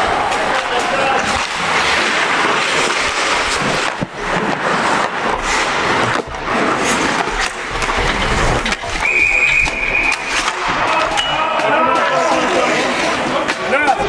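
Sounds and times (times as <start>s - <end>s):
hockey sticks and puck clacking: 0.0s - 14.0s
skate blades scraping ice: 0.2s - 14.0s.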